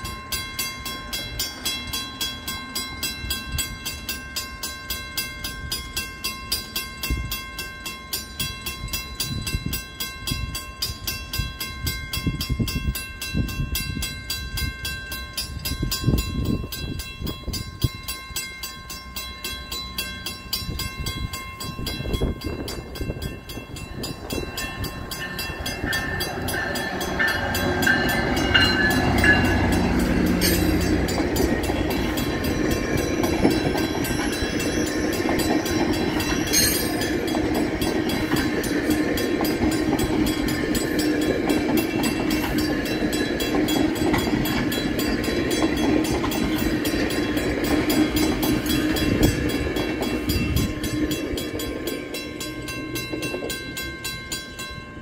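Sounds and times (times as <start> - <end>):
train passing wheel and rail noise: 0.0 - 55.0.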